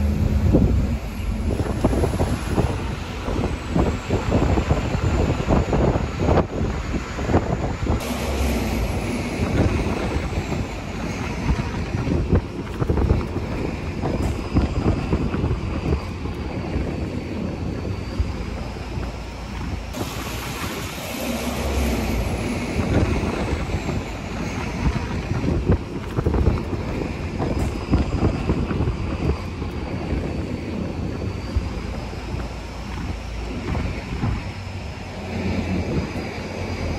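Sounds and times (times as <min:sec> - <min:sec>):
faint high whine sliding down: 0:00.0 - 0:36.9
low rumble of bus: 0:00.0 - 0:36.9
street traffic: 0:00.0 - 0:36.9
wind buffeting microphone: 0:00.0 - 0:36.9.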